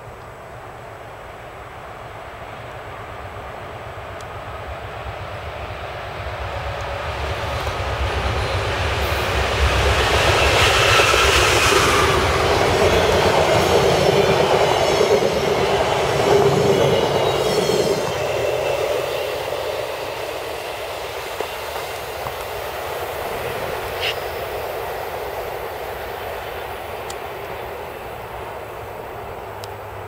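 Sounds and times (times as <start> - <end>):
train wheels rushing on rails: 1.2 - 30.0.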